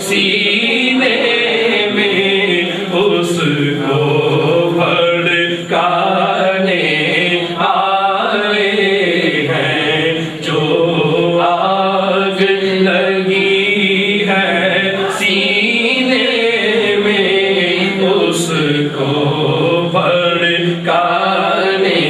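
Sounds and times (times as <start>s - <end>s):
voices singing devotional chant: 0.0s - 22.0s.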